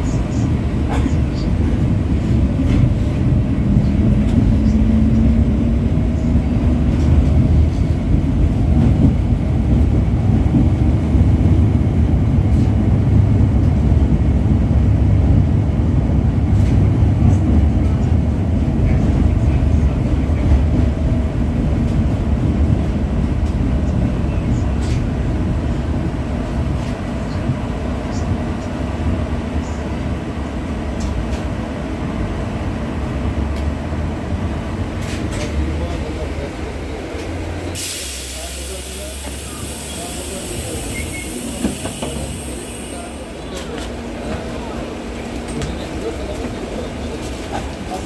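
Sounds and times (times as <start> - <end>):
tram wheels rumbling on rails: 0.0 - 48.0.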